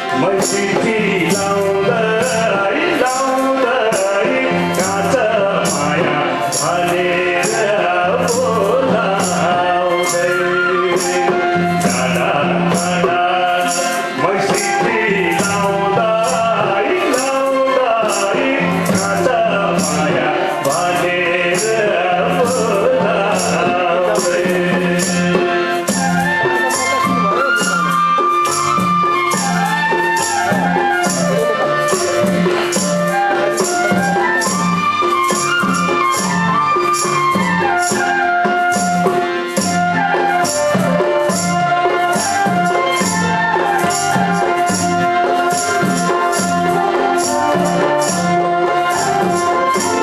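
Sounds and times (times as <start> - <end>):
harmonium: 0.0 - 50.0
man singing: 0.0 - 50.0
quick percussion beat: 0.0 - 50.0
bamboo flute: 4.2 - 50.0.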